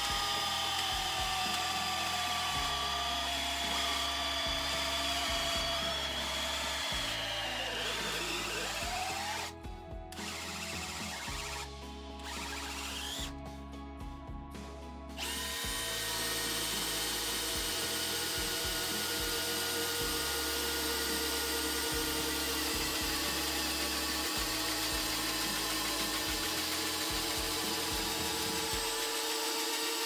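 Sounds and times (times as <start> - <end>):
cordless drill whirring: 0.0 - 13.4, 15.2 - 30.0.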